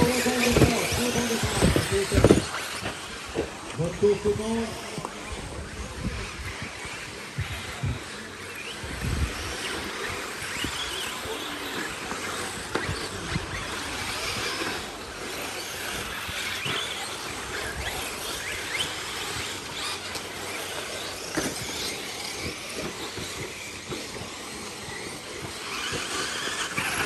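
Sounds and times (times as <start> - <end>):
toy car motors whining: 0.0 - 27.0.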